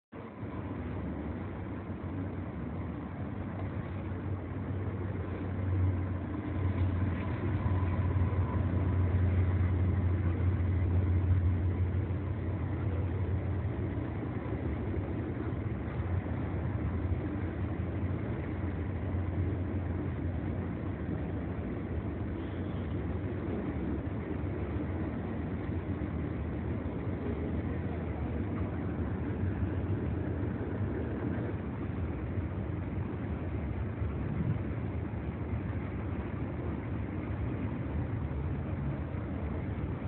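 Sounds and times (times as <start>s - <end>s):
freight train rumbling past: 0.2s - 40.0s.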